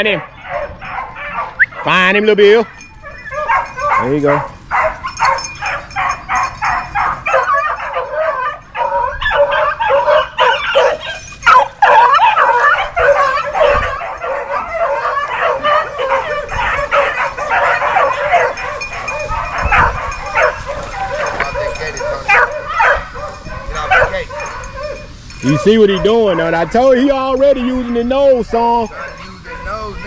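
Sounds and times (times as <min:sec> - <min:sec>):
puppies yipping and whining: 0:00.0 - 0:30.0.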